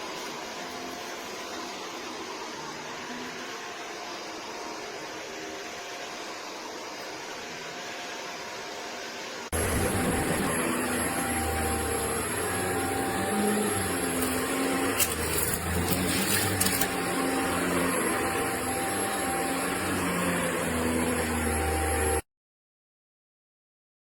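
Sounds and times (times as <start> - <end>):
upright vacuum cleaner running: 0.0 - 22.2.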